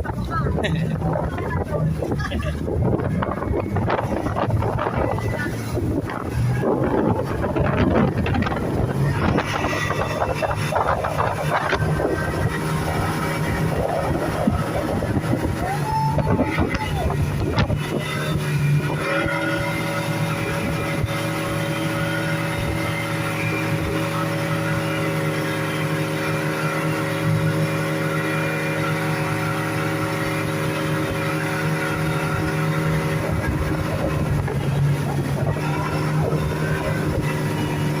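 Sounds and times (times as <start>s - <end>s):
speedboat engine drone: 0.0s - 38.0s.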